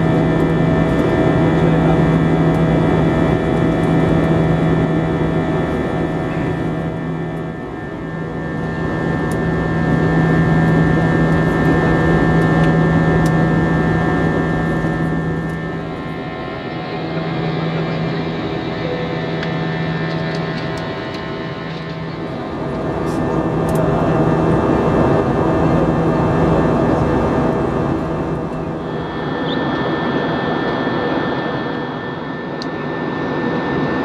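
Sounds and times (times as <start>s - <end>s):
aircraft cabin engine drone: 0.0s - 34.0s.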